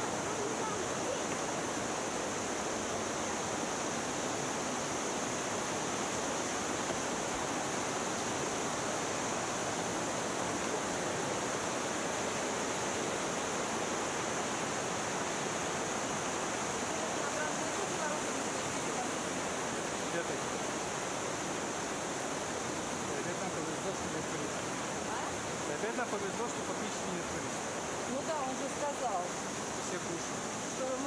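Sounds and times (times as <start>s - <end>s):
high hiss: 0.0s - 31.0s
stream rushing over rocks: 0.0s - 31.0s.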